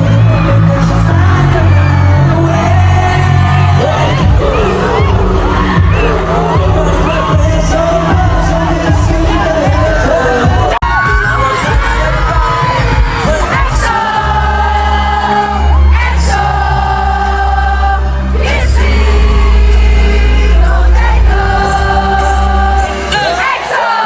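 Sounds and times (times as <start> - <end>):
heavy bass line: 0.0 - 23.3
live pop song through loudspeakers: 0.0 - 24.0.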